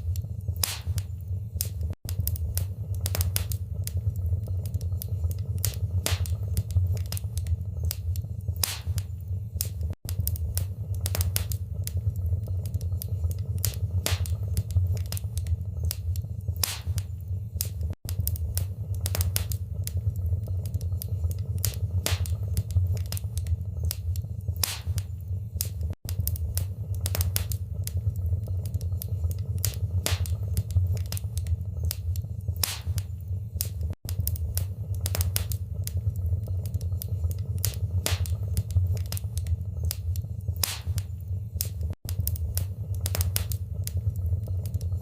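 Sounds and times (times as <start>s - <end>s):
fire pops and snaps: 0.0s - 45.0s
low rumble of flames: 0.0s - 45.0s.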